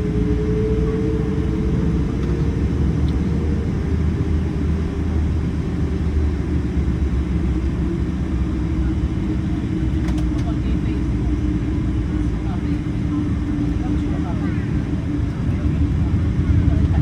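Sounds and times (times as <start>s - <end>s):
airliner engine rumble: 0.0s - 17.0s
faint engine whine: 0.0s - 17.0s.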